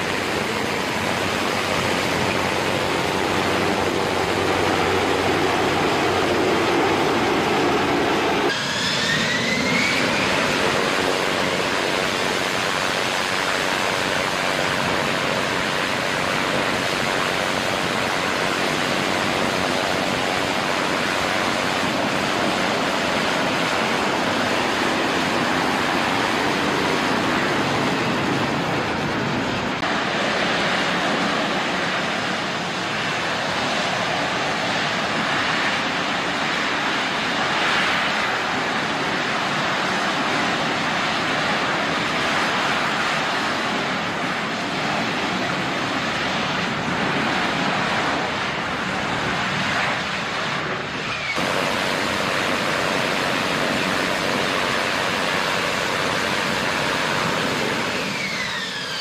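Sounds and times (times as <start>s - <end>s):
jet engine rushing: 0.0s - 59.0s.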